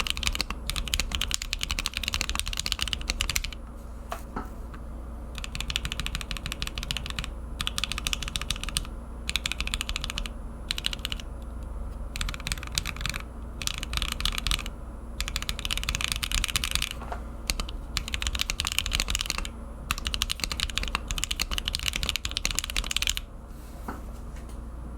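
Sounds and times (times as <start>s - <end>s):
typing on mechanical keyboard: 0.0s - 3.6s, 5.4s - 11.3s, 12.2s - 23.3s.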